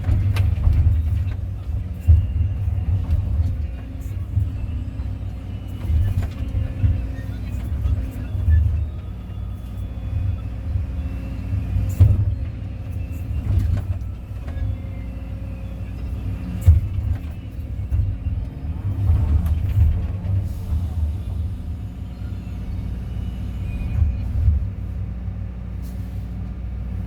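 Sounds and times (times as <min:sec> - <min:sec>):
excavator diesel engine rumbling: 0:00.0 - 0:27.0.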